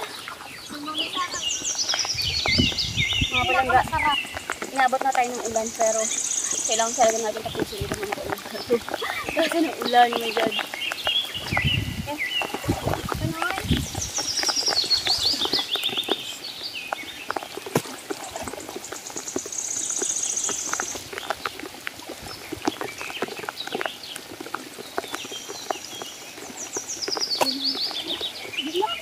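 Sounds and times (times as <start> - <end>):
bird calls: 0.0 - 29.0
rain pattering on water: 0.0 - 29.0
small water splashes: 0.0 - 29.0.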